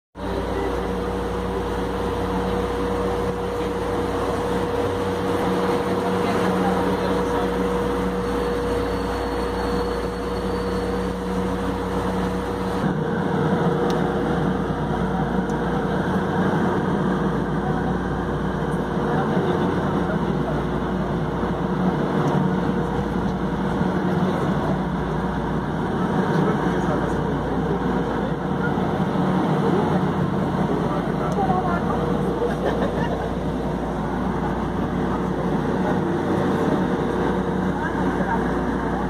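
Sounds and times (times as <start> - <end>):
rail car electrical hum: 0.2 - 39.0.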